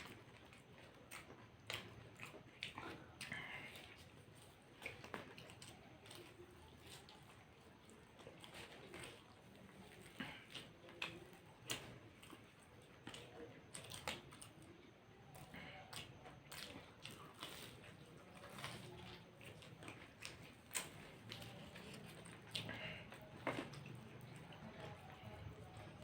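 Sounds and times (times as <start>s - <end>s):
people chewing fried snacks: 0.0s - 26.0s.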